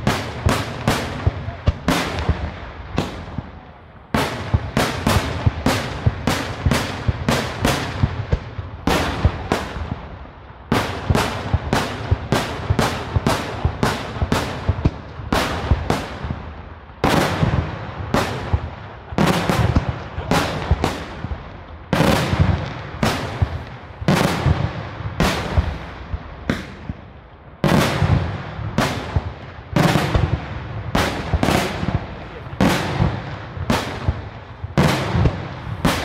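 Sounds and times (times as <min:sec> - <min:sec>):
fireworks bursting: 0:00.0 - 0:36.0.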